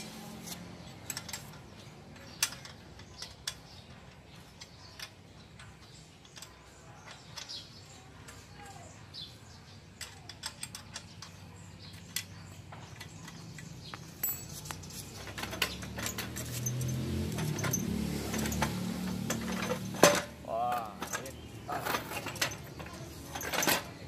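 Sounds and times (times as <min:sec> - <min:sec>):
wrench clinking on metal bolts: 0:00.9 - 0:09.0, 0:09.9 - 0:24.0.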